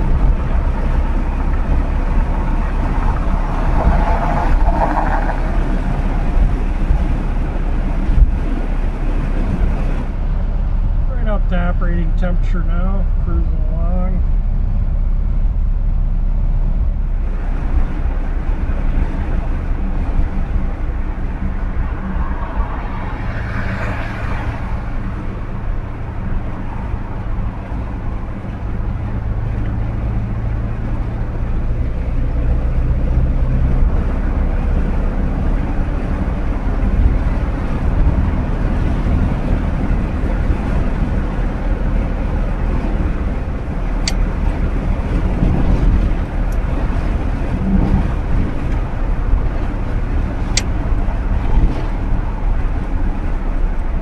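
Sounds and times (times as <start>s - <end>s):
car engine running steadily: 0.0s - 54.0s
road noise: 0.0s - 54.0s
rush of noise: 0.0s - 54.0s.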